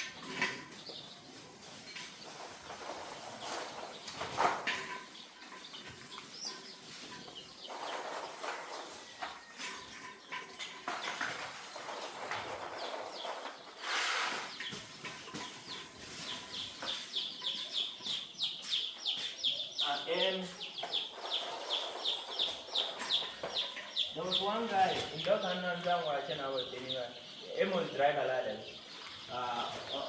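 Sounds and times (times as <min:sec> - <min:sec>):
rustling and light knocks: 0:00.0 - 0:19.6, 0:20.4 - 0:26.9
chicks peeping: 0:00.0 - 0:30.0.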